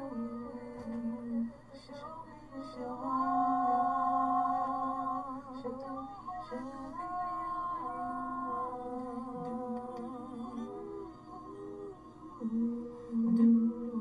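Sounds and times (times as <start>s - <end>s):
woman humming: 0.0s - 1.9s, 2.6s - 14.0s
music: 0.0s - 14.0s.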